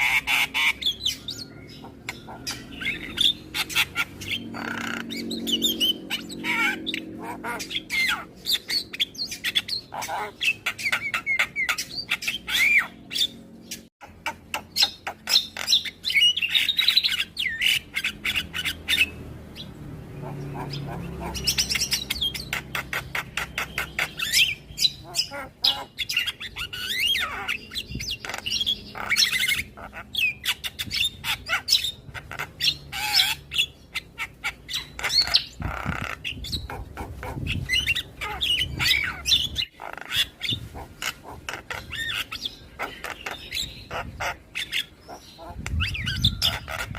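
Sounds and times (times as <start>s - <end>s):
bird chattering and whistling: 0.0s - 46.9s.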